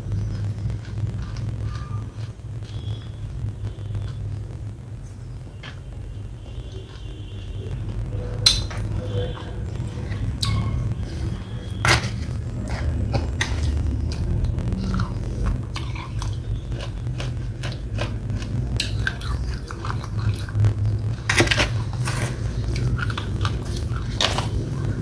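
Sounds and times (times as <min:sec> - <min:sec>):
sticky chewing mouth sounds: 0:00.0 - 0:04.2, 0:07.8 - 0:25.0
steady low hum: 0:00.0 - 0:25.0.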